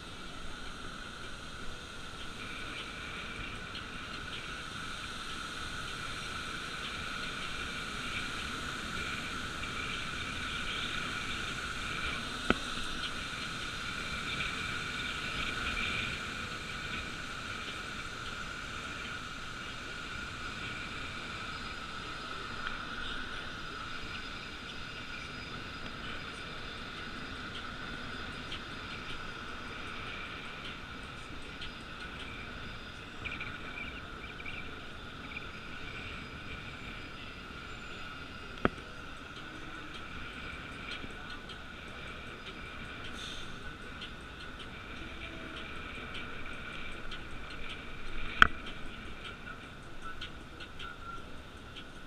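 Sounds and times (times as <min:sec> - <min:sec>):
wind and road rush: 0:00.0 - 0:52.0.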